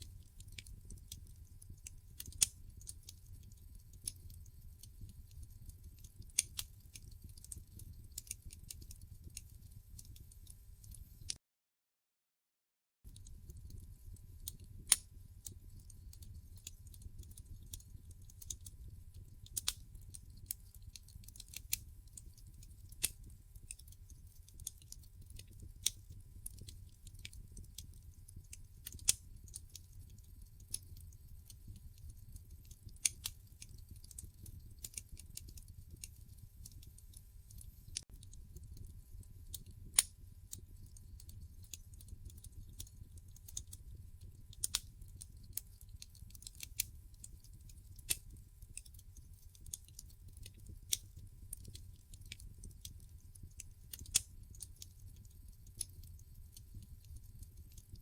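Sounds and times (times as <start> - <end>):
wood fire crackling: 0.0 - 11.4, 13.1 - 58.0.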